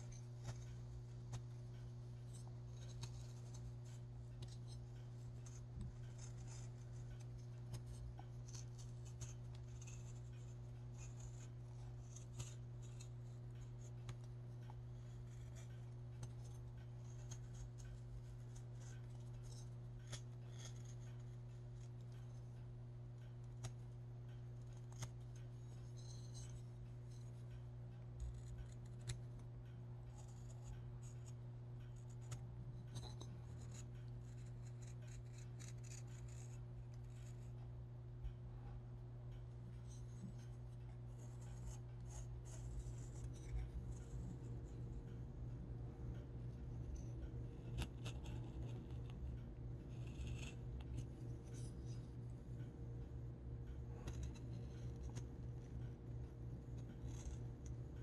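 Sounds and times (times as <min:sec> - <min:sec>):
low electrical hum: 0:00.0 - 0:58.0
scratching and clicking handwork: 0:00.0 - 0:58.0.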